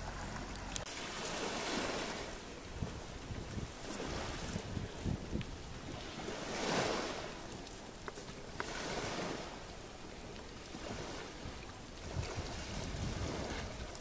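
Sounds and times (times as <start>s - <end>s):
waves washing on pebble beach: 0.0s - 14.0s
wind rumbling on microphone: 0.0s - 14.0s.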